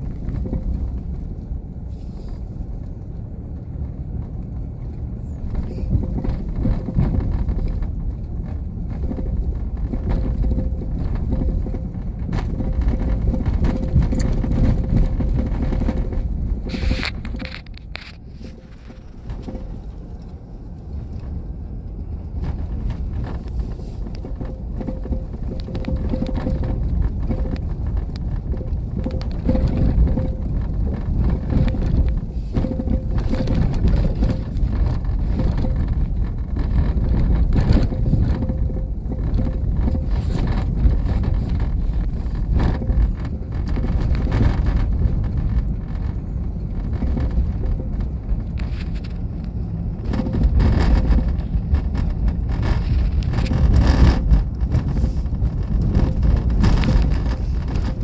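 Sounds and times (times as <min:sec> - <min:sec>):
van road rumble with knocks: 0:00.0 - 0:58.0.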